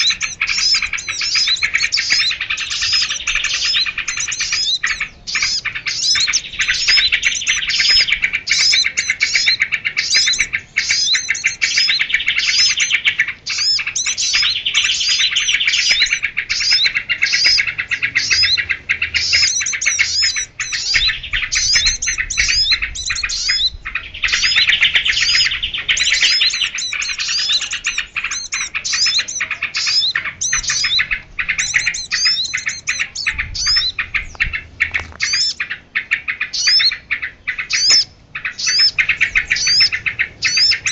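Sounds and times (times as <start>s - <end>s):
small birds chirping and twittering: 0.0s - 40.9s.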